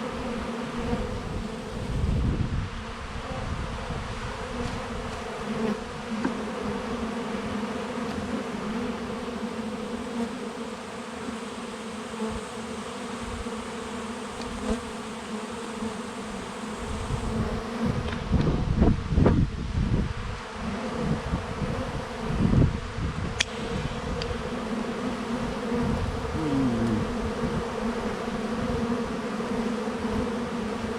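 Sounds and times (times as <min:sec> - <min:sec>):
honey bees buzzing: 0:00.0 - 0:02.3, 0:04.2 - 0:18.4, 0:20.4 - 0:30.9.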